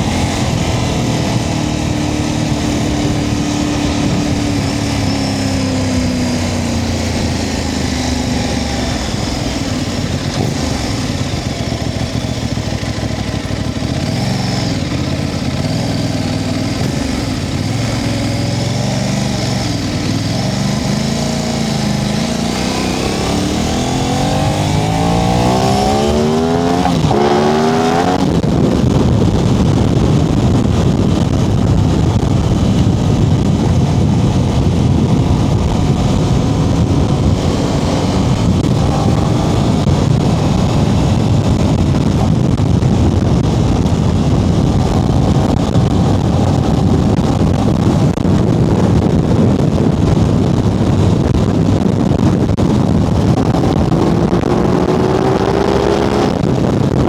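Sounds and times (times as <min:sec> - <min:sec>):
motorcycle engine accelerating: 0:00.0 - 0:57.0
steady rush of noise: 0:00.0 - 0:57.0.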